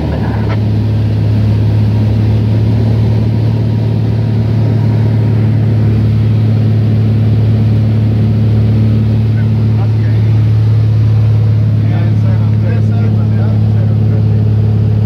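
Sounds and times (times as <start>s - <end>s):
aircraft engine drone: 0.0s - 15.0s
rushing air noise: 0.0s - 15.0s.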